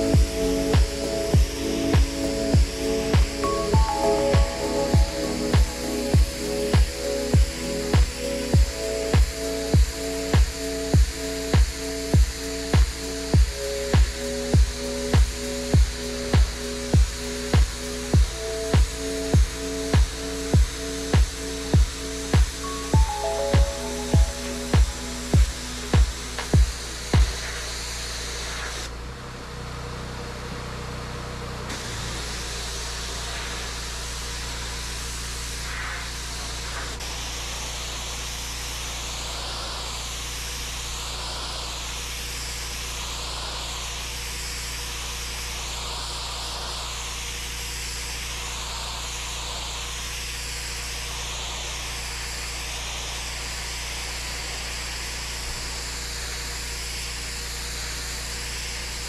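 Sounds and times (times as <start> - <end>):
pressure washer spraying stone: 0.0 - 28.9, 31.7 - 59.0
steady low machine hum: 0.0 - 59.0.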